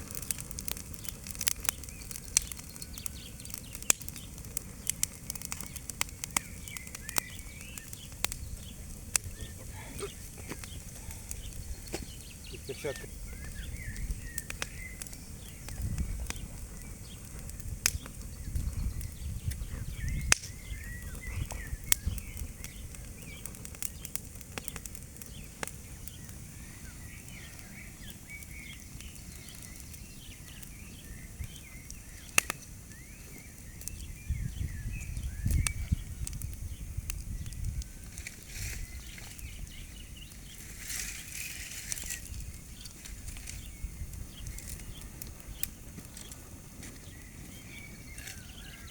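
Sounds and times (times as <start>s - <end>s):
fire cracking and snapping: 0.0s - 48.9s
small birds chirping: 0.0s - 48.9s
wind rumbling on microphone: 0.0s - 48.9s.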